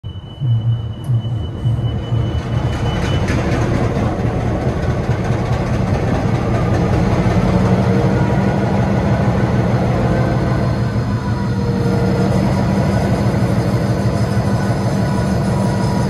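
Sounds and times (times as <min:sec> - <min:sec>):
train engine droning: 0:00.0 - 0:16.0.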